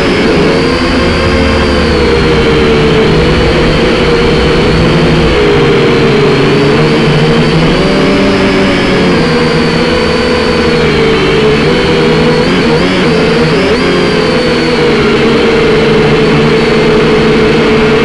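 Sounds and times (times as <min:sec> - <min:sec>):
drone propellers whining: 0:00.0 - 0:18.0
wind rumble on microphone: 0:00.0 - 0:18.0.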